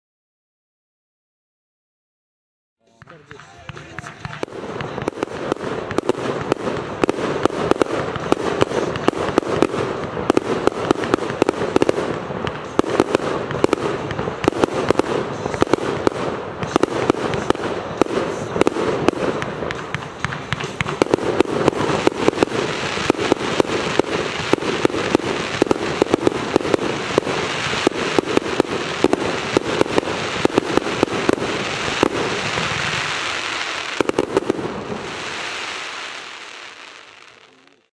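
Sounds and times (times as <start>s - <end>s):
firework battery bangs and pops: 2.9s - 37.5s.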